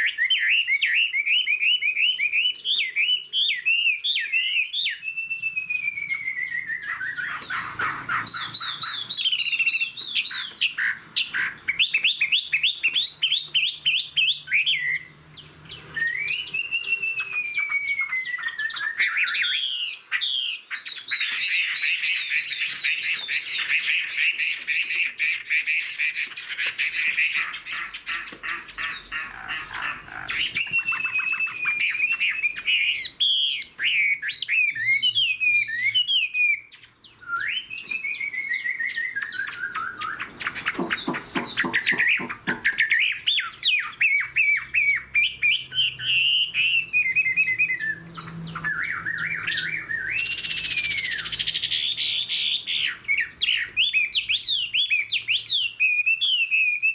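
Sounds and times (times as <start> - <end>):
bird singing varied whistled song: 0.0 - 56.9.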